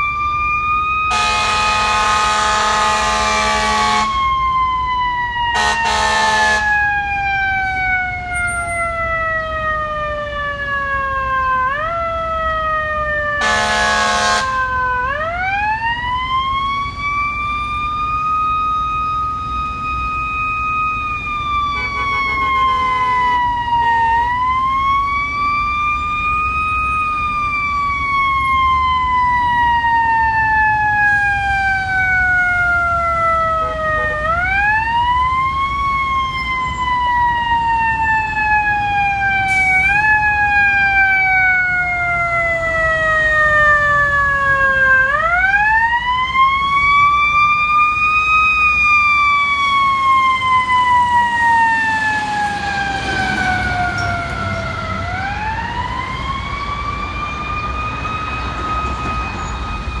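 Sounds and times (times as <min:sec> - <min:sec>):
fire truck siren wailing: 0:00.0 - 1:00.0
low engine and traffic rumble: 0:00.0 - 1:00.0.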